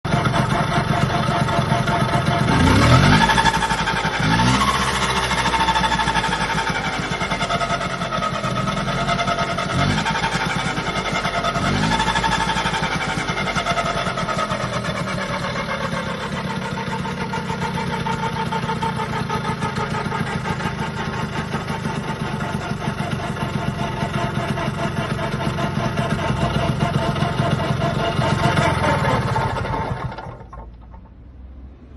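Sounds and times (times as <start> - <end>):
scooter engine running: 0.0 - 31.5.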